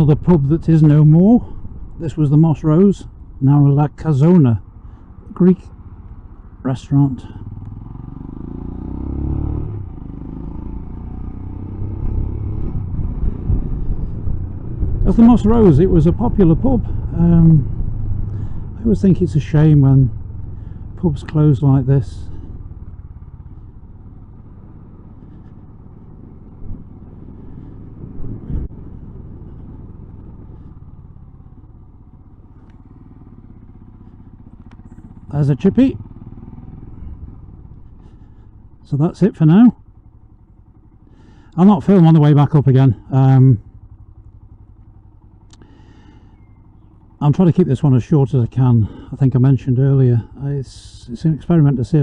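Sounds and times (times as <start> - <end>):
motorcycle engine rumble: 0.0 - 52.0.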